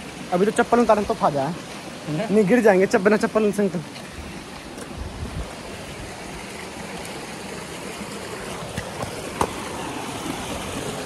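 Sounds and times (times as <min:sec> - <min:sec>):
water flowing over rocks: 0:00.0 - 0:11.0.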